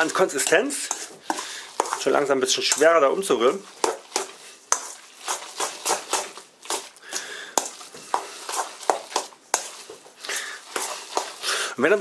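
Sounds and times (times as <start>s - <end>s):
utensil scraping metal bowl: 0.0s - 11.6s
dough squelching: 0.0s - 12.0s.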